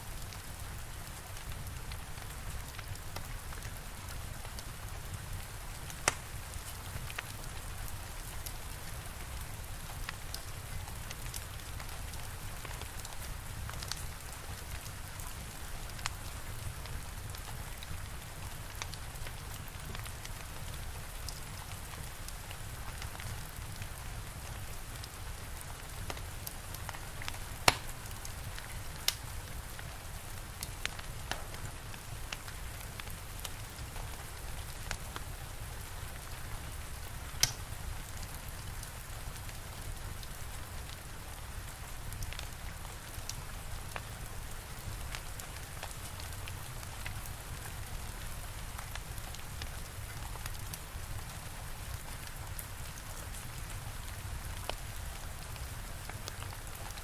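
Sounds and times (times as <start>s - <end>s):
steady rain: 0.0s - 57.0s
fire crackling and popping: 0.2s - 57.0s.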